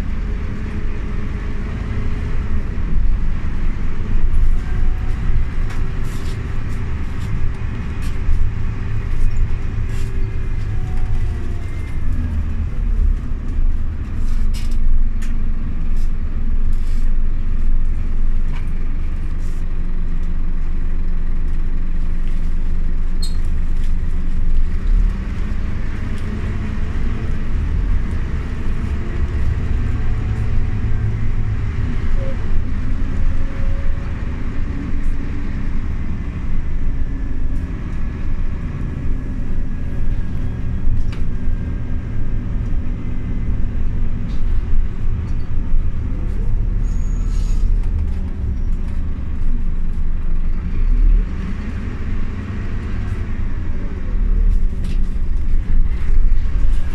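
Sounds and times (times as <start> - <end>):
bus engine rumble: 0.0 - 56.9.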